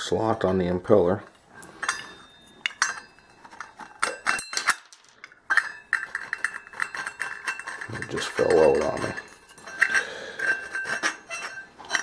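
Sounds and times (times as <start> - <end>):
metal parts clinking and clicking: 1.7 - 12.0.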